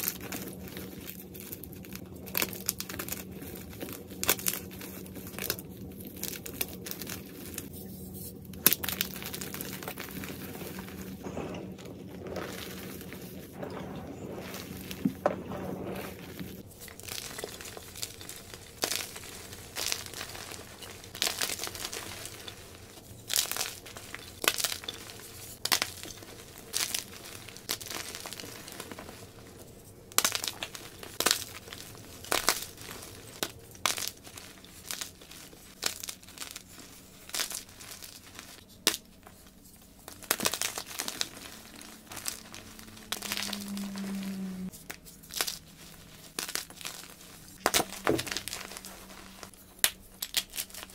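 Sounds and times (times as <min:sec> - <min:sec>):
chalk crumbling: 0:00.0 - 0:50.9
chalk crunching and snapping: 0:00.0 - 0:50.9.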